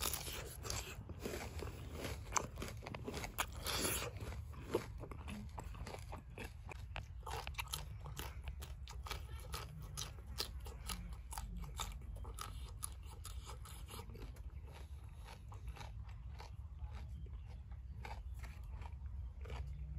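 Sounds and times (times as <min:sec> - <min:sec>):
crunching and chewing raw bean: 0:00.0 - 0:19.9.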